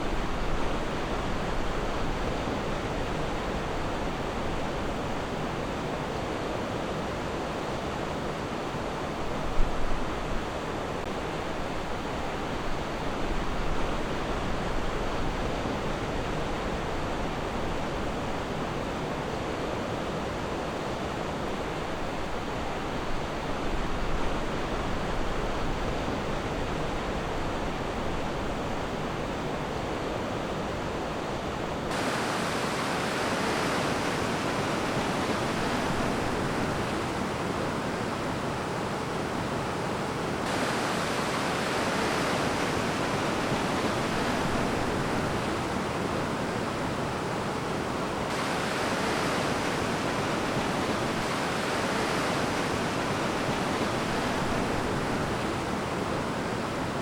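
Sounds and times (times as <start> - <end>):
ocean surf on a beach: 0.0 - 57.0.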